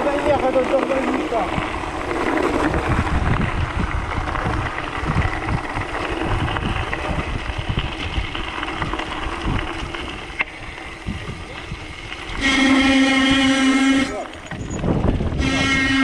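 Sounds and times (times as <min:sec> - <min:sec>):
bike tyres on gravel: 0:00.0 - 0:16.0
wind buffeting microphone: 0:00.0 - 0:16.0.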